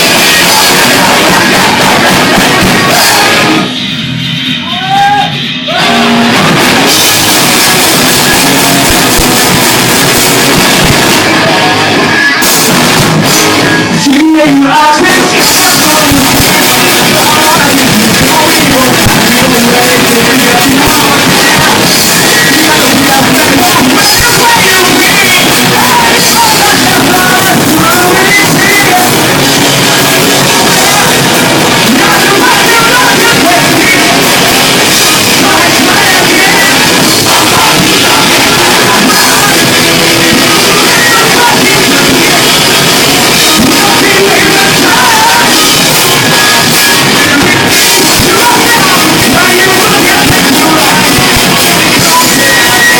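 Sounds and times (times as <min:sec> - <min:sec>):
shouted vocals: 0:00.0 - 0:03.7, 0:04.6 - 0:12.5, 0:13.6 - 0:52.9
rock band playing: 0:00.0 - 0:52.9.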